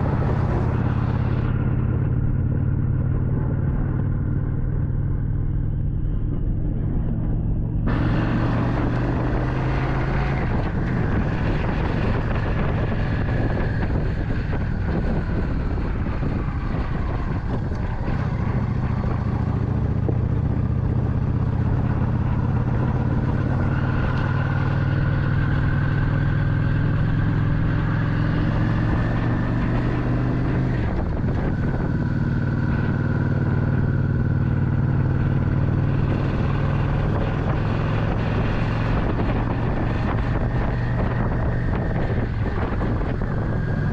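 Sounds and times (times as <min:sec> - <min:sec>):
motorcycle engine running: 0:00.0 - 0:43.9
wind rush: 0:00.0 - 0:43.9.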